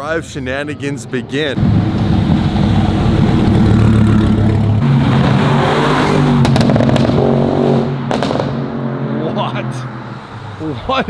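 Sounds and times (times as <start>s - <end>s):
loud car engine running: 0.5s - 10.8s.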